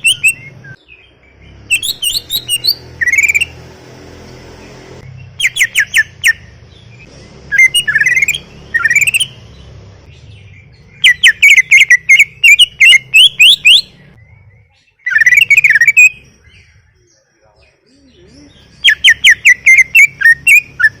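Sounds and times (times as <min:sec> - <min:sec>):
bird singing whistled notes: 0:00.0 - 0:03.6, 0:05.0 - 0:21.0.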